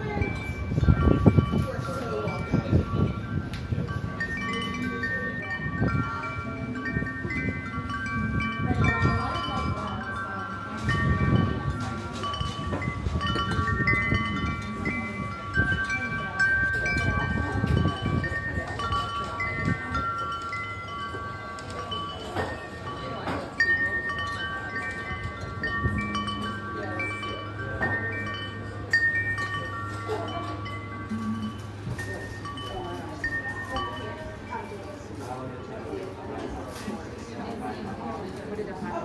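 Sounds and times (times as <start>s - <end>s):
wind chimes ringing: 0.0s - 39.0s.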